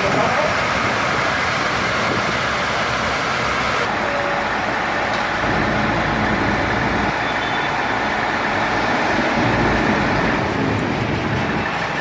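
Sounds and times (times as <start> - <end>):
fire engines running: 0.0 - 12.0.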